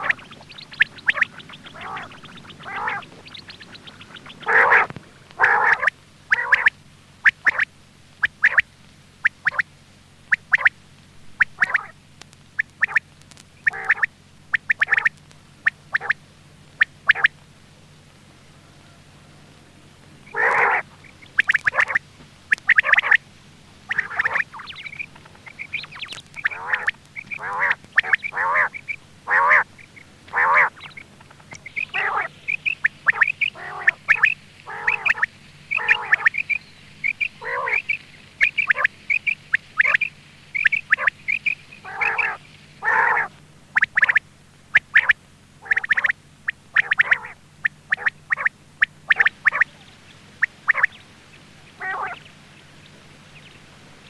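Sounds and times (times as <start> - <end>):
quail calling: 0.0 - 17.5, 18.2 - 54.0
faint low hum: 0.0 - 54.0.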